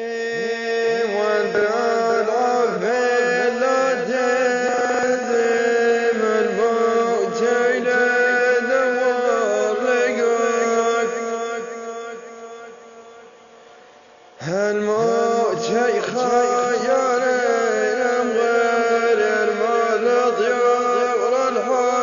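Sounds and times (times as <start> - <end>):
chanted vocal melody: 0.0 - 13.6, 14.4 - 22.0.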